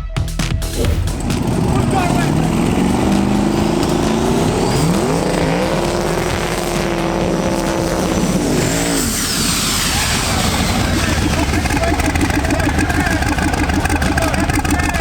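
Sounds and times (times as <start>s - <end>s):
drag racing car engine: 0.6s - 15.0s
high falling whine: 0.8s - 13.4s.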